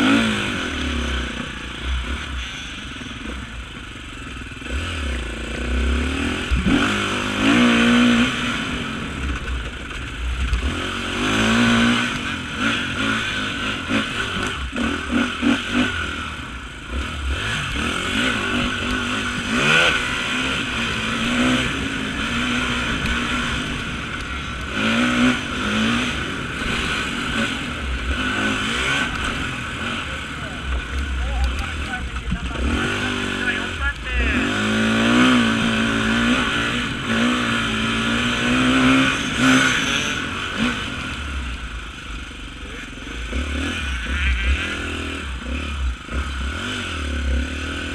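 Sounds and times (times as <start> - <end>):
clatter: 0.0 - 16.2, 16.8 - 47.9
motorcycle engine revving: 0.0 - 47.9.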